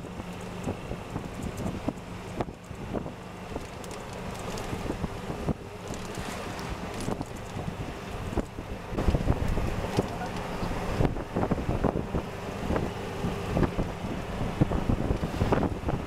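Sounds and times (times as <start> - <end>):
golf cart rumbling: 0.0 - 16.0
wind buffeting microphone: 0.0 - 16.0.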